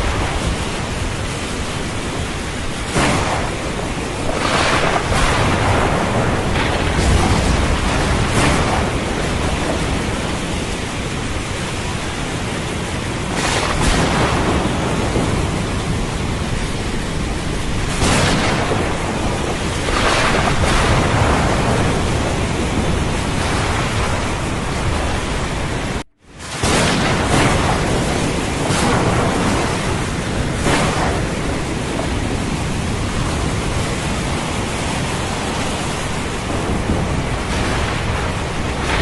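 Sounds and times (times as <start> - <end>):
heavy rain: 0.0 - 39.0
thunder rumbling: 0.0 - 39.0
waves surging: 0.0 - 39.0.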